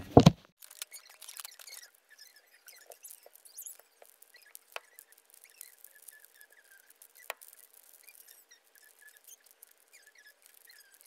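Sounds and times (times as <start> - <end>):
plastic blister pack crackling: 0.0 - 11.0
wooden puzzle blocks clicking: 0.1 - 11.0.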